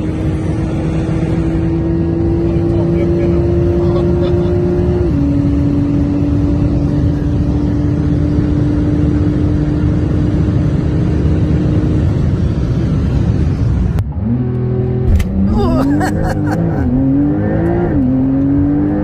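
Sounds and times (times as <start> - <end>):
wind and road rumble: 0.0 - 19.0.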